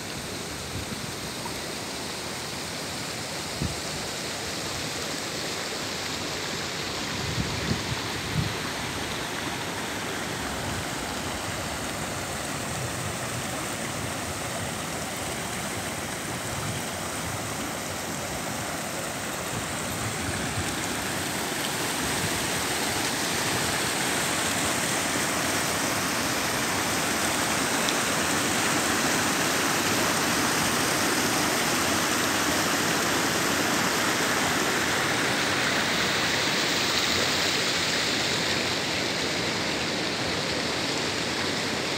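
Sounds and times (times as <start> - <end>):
waterfall rushing over rocks: 0.0 - 41.9.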